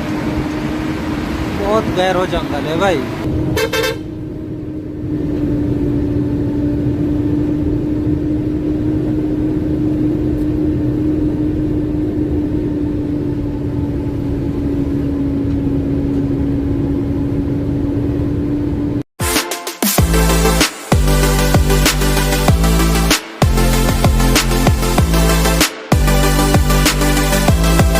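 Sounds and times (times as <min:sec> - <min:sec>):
lorry engine droning: 0:00.0 - 0:19.1, 0:19.9 - 0:27.9.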